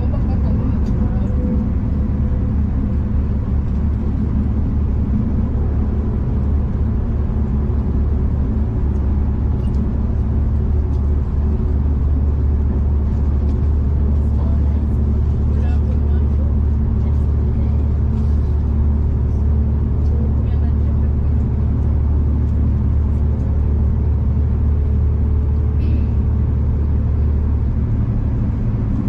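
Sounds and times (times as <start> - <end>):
train rumble inside carriage: 0.0 - 29.0.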